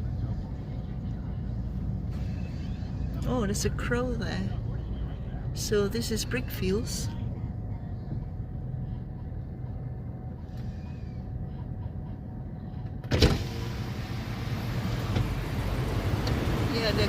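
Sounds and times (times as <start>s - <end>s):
vehicle rumble in traffic: 0.0s - 17.0s.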